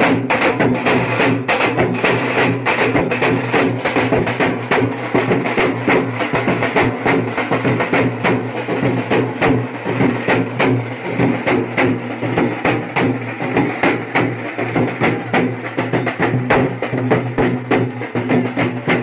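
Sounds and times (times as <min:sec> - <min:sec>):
drum band playing fast rhythm: 0:00.0 - 0:19.0.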